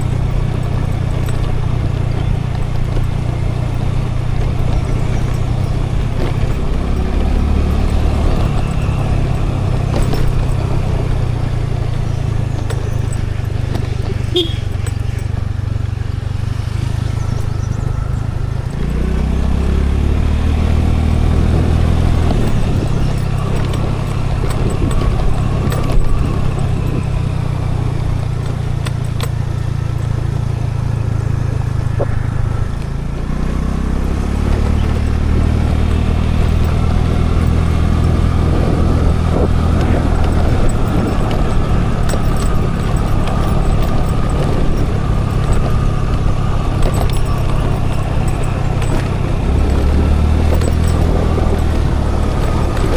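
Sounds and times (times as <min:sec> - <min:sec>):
road and wind noise: 0:00.0 - 0:52.9
scooter engine running: 0:00.0 - 0:52.9.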